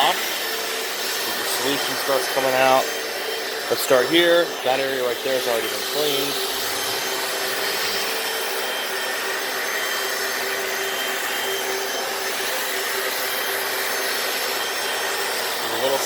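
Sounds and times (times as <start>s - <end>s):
floor cleaner motor whining: 0.0s - 16.0s.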